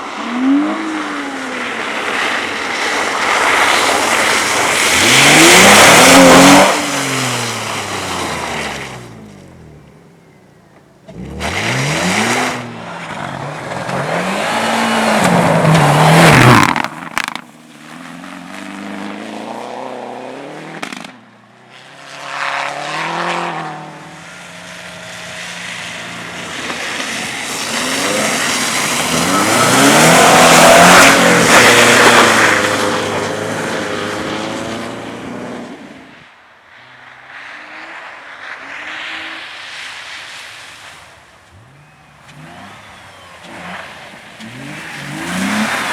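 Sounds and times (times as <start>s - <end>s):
race cars driving past: 0.0s - 45.9s.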